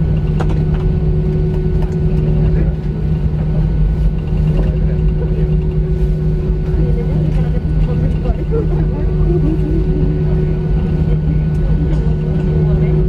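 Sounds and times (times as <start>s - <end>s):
jet engines humming: 0.0s - 13.0s.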